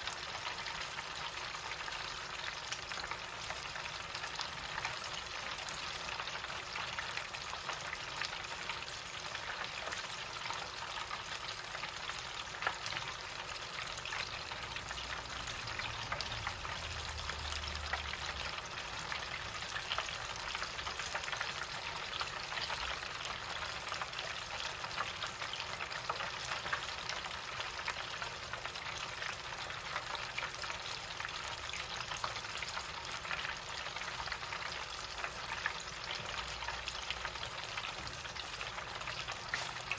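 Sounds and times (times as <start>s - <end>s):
chicken deep-frying in oil: 0.0s - 39.9s.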